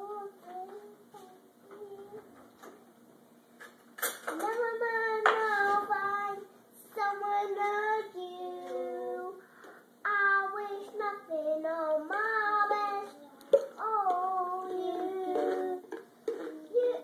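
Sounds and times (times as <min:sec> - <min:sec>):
girl singing: 0:00.0 - 0:02.5, 0:04.3 - 0:17.0.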